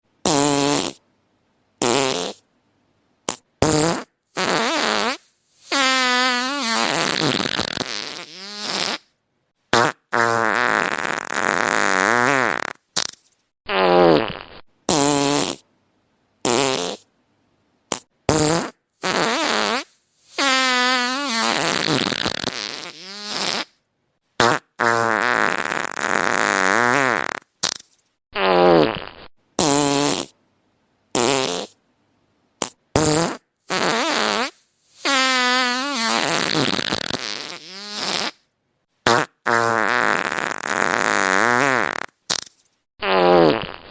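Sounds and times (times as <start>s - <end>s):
fart sound effects: 0.2s - 1.0s, 1.8s - 2.4s, 3.3s - 9.1s, 9.7s - 15.6s, 16.4s - 17.1s, 17.9s - 23.8s, 24.4s - 30.4s, 31.2s - 31.8s, 32.6s - 38.5s, 39.1s - 43.9s.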